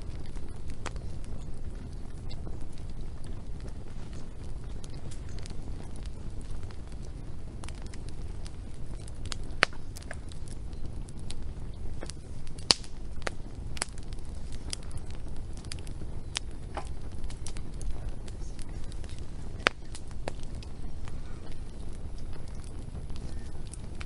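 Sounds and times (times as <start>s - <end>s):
low rumble of flame: 0.0s - 24.0s
wood fire crackling and popping: 0.0s - 24.0s.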